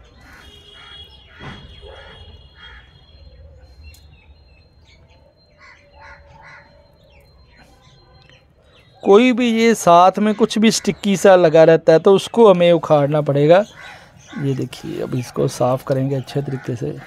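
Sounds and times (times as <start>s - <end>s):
faint bird calls: 0.0s - 11.4s, 12.1s - 17.0s.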